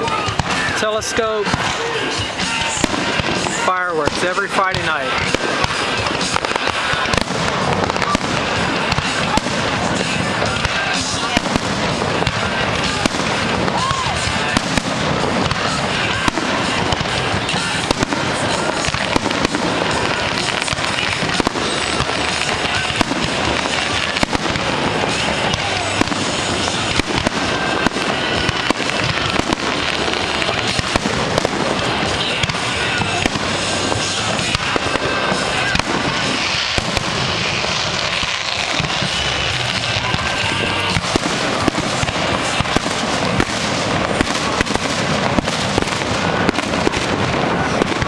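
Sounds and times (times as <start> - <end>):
fireworks bangs and crackling: 0.0 - 48.0
music playing: 0.0 - 48.0.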